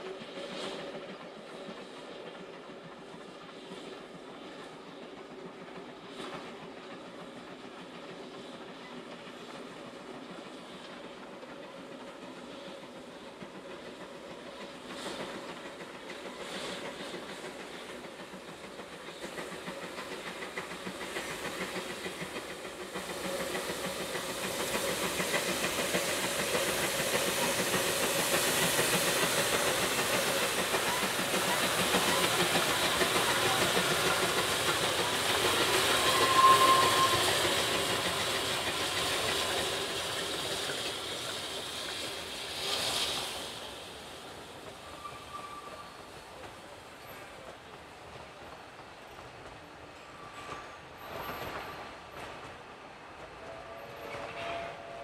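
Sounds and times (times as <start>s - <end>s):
steam locomotive exhaust: 0.0s - 55.0s.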